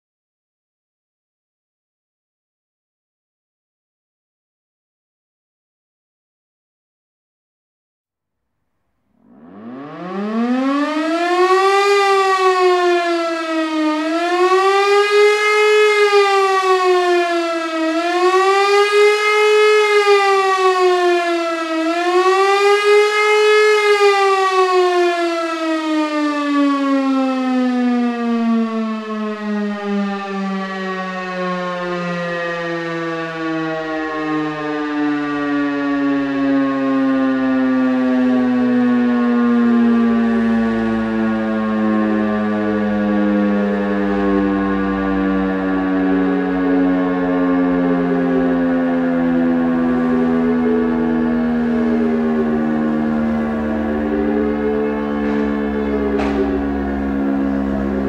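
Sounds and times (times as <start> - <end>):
mechanical siren wailing: 9.1 - 58.0.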